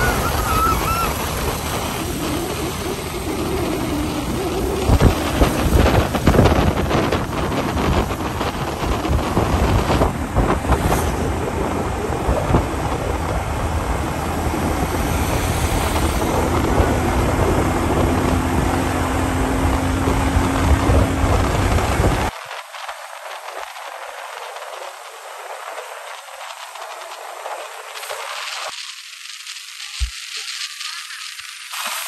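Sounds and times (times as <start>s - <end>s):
wind buffeting microphone: 0.0s - 28.6s
engine and tyre noise: 0.0s - 28.8s.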